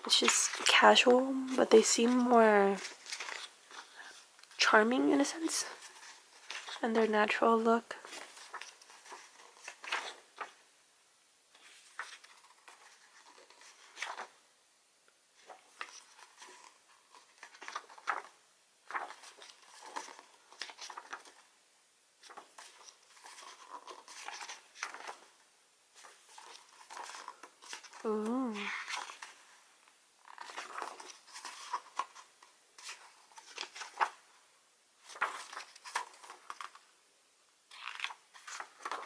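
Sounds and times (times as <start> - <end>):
book pages turning: 0.1 - 4.6, 5.6 - 7.1, 7.9 - 10.6, 11.5 - 14.4, 15.4 - 21.5, 22.2 - 29.6, 30.2 - 34.3, 35.0 - 36.8, 37.7 - 39.0.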